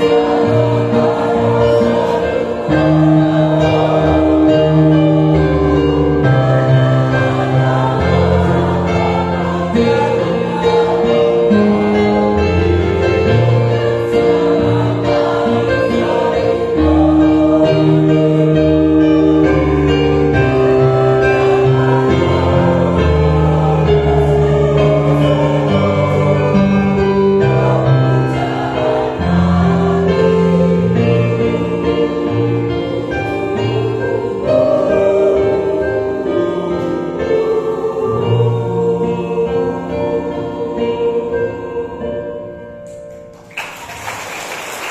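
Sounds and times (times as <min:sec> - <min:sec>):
mixed choir singing a hymn: 0:00.0 - 0:43.0.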